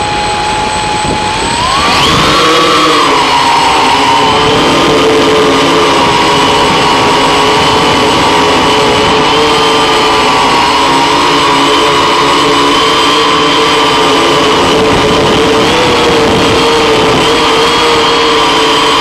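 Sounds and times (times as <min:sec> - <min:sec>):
drone motors buzzing whine: 0:00.0 - 0:19.0.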